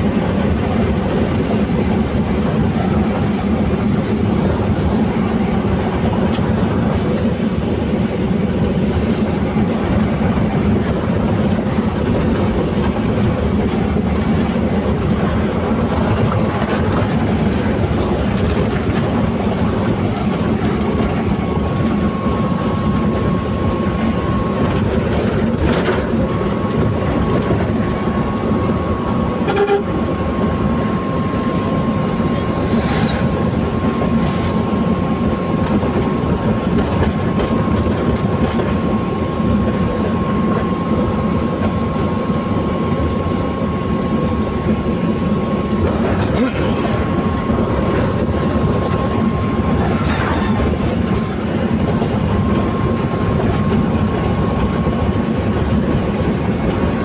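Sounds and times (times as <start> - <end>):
vehicle road and engine noise: 0.0 - 57.0.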